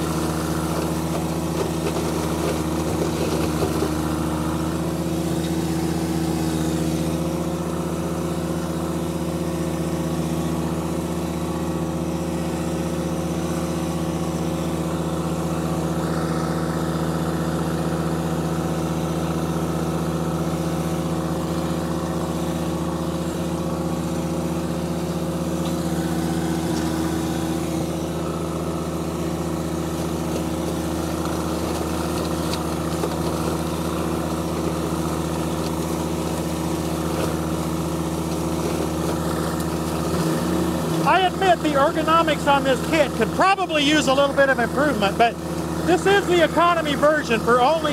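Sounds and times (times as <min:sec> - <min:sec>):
flail mower chopping corn stalks: 0:00.0 - 0:47.9
tractor diesel engine running: 0:00.0 - 0:47.9.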